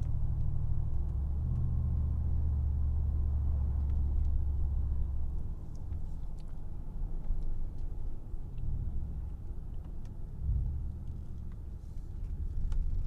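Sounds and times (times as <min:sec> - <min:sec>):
car engine rumble in cabin: 0:00.0 - 0:13.0.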